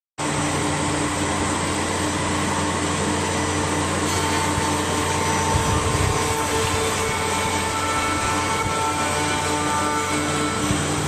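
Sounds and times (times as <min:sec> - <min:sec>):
machine motor hum and whir: 0:00.2 - 0:11.0.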